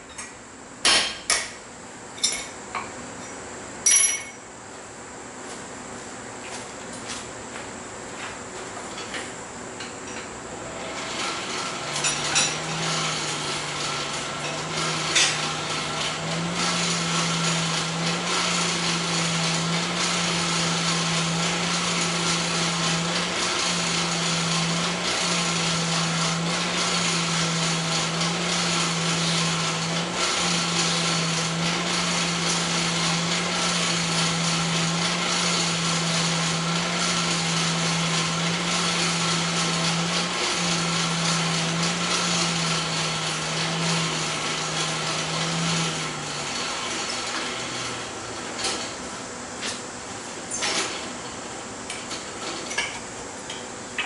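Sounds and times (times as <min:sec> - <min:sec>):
motor hum with hiss: 0:04.7 - 0:54.0.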